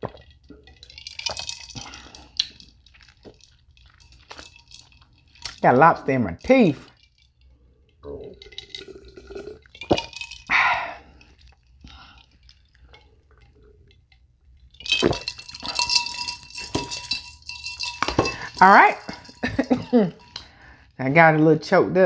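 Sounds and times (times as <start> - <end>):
glass clinking and knocking: 0.0 - 5.7, 8.2 - 20.7.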